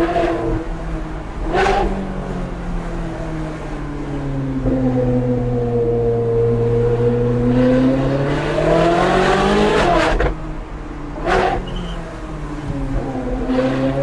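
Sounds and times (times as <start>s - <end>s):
car engine accelerating: 0.0s - 10.4s, 11.2s - 14.0s.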